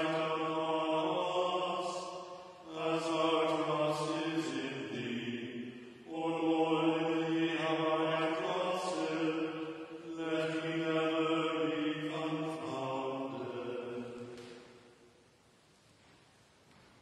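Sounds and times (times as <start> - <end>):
liturgical chanting: 0.0 - 15.2.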